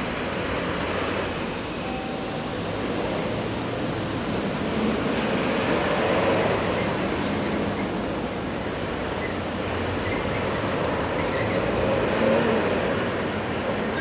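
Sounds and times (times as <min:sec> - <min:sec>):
freight train rumbling: 0:00.0 - 0:14.0.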